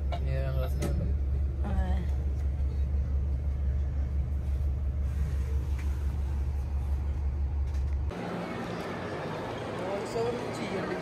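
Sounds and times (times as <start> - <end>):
bus cabin rumble: 0.0 - 11.0.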